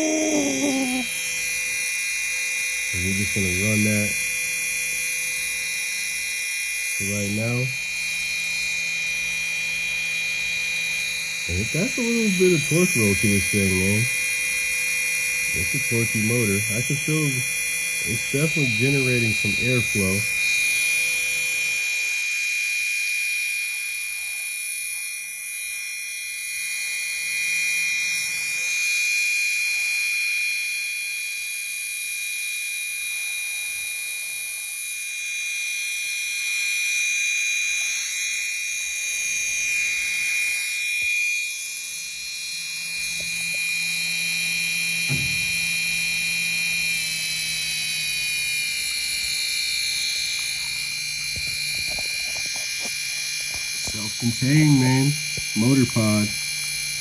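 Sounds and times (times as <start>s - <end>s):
electric motor high-pitched whine: 0.0s - 57.0s.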